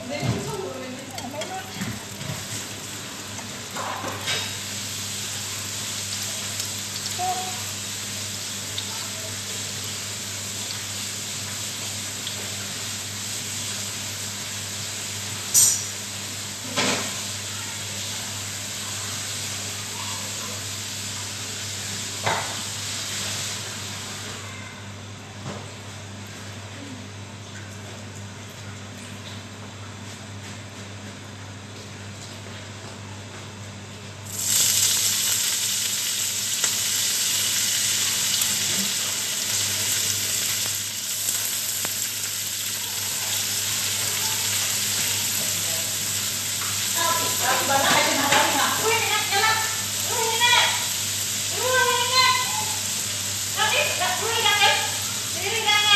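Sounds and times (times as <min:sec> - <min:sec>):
garlic and onion sizzling in oil: 0:00.0 - 0:24.4, 0:34.2 - 0:55.9
range hood fan running: 0:00.0 - 0:55.9.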